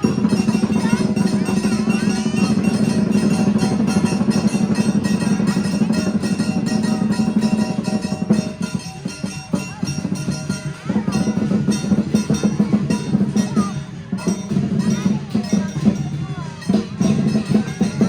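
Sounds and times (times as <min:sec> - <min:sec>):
big drum rolling: 0:00.0 - 0:18.0
cymbals and gong ringing: 0:00.0 - 0:18.0.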